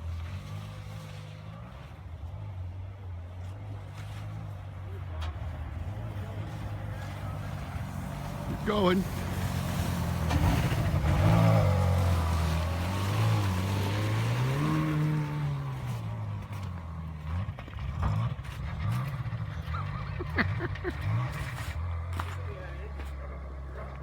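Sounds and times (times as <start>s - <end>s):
road and wind noise: 0.0s - 24.0s
car engine running: 2.2s - 24.0s.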